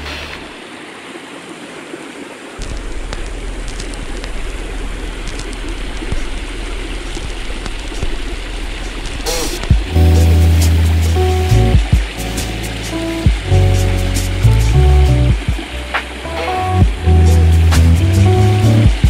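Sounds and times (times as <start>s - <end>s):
stream trickling over rocks: 0.0s - 19.0s
low rumble: 2.6s - 19.0s.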